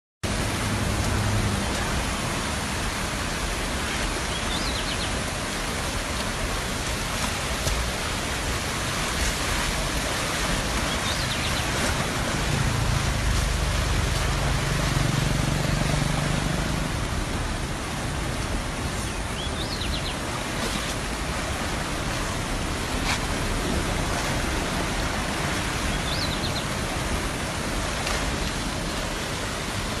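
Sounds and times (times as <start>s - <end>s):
floodwater rushing: 0.2s - 30.0s.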